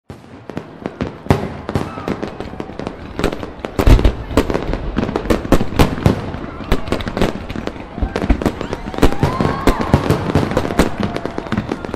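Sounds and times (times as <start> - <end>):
fireworks bangs and crackles: 0.1 - 11.9.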